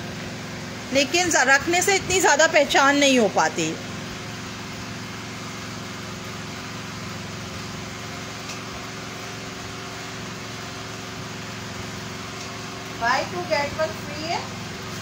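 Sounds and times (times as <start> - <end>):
machine hum with low tones: 0.0 - 15.0.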